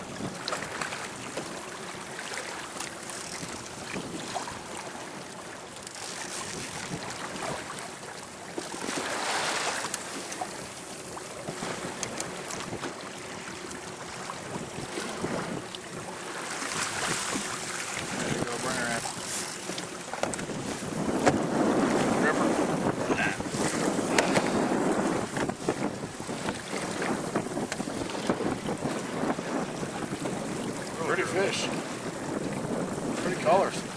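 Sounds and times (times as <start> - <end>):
water splashing around boat: 0.0 - 33.9
wind on microphone: 0.0 - 33.9.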